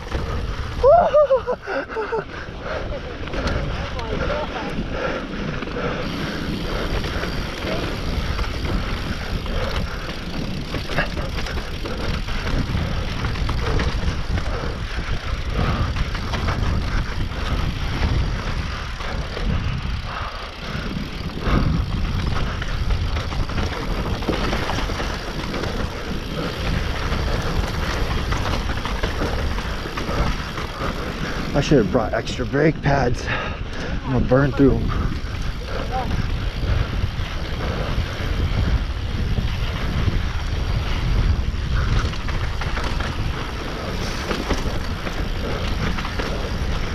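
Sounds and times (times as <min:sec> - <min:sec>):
bike rattling and knocking: 0:00.0 - 0:46.9
tyres rolling on dirt and rock: 0:00.0 - 0:46.9
wind on microphone: 0:02.3 - 0:46.9.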